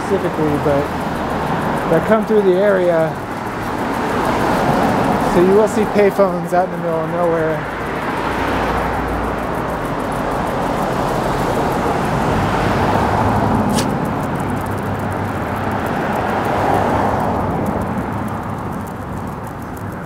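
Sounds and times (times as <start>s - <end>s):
cars passing on street: 0.0s - 20.0s.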